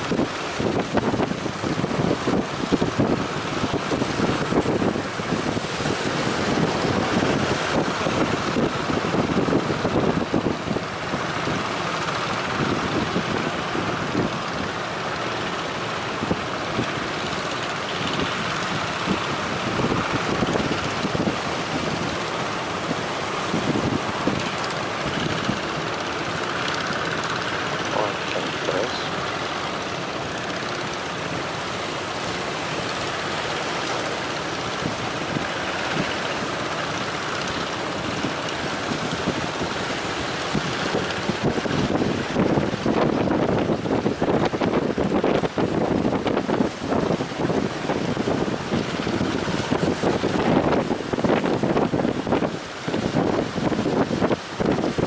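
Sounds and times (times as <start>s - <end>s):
engine running: 0.0s - 55.0s
wind buffeting microphone: 0.0s - 55.0s.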